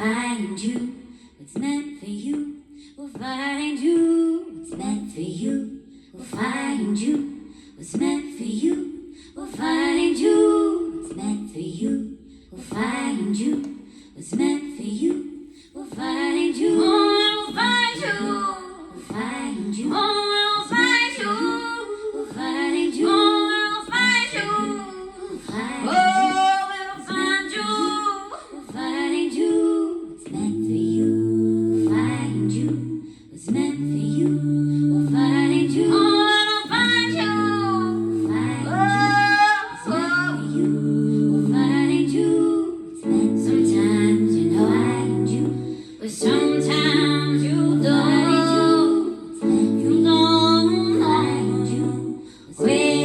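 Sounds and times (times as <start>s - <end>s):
woman singing: 0.0s - 53.0s.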